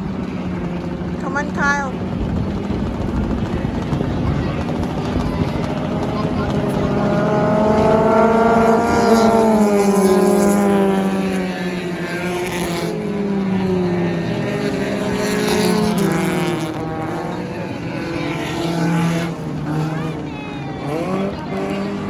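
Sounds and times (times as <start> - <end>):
race car engine at speed: 0.0 - 22.0.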